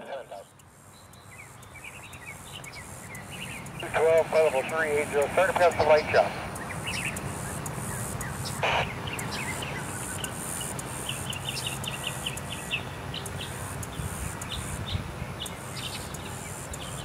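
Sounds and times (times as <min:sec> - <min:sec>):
birds chirping: 0:00.0 - 0:17.0
insects buzzing: 0:00.0 - 0:17.0.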